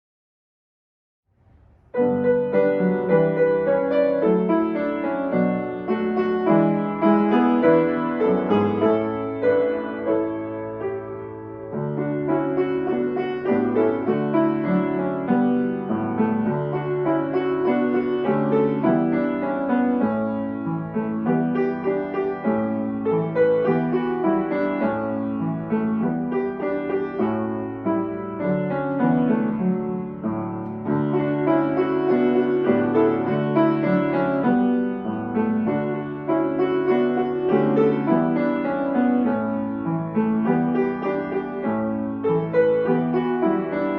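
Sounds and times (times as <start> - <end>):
solo piano music: 1.4 - 43.9.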